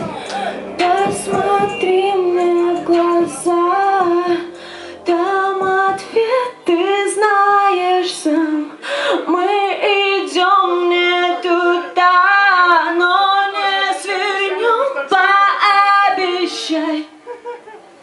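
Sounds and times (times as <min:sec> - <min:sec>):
woman singing: 0:00.0 - 0:17.2.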